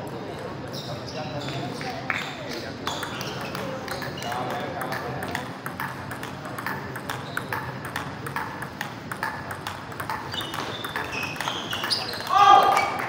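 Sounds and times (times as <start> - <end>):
table tennis ball clicking: 2.1 - 13.0.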